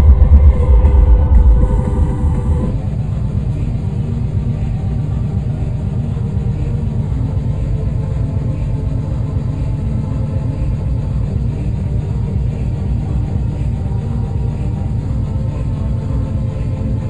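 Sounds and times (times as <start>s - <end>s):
hardcore techno over sound system: 0.0s - 17.0s.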